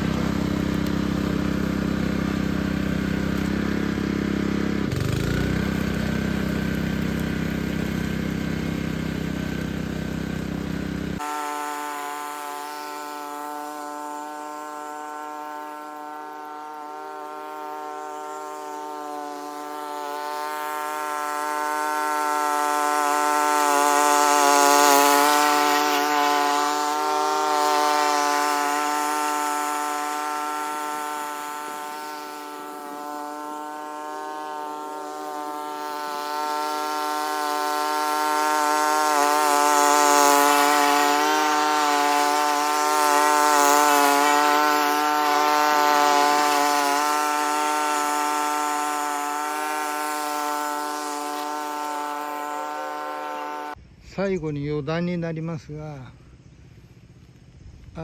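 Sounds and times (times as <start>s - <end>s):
lawn mower engine running: 0.0s - 53.8s, 55.8s - 58.0s.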